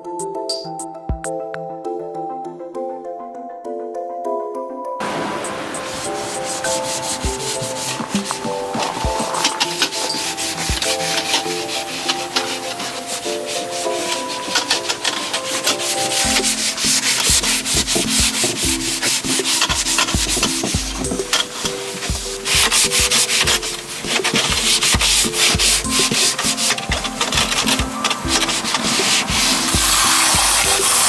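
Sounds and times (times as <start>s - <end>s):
scrub pad rasping on wood: 5.7s - 31.0s.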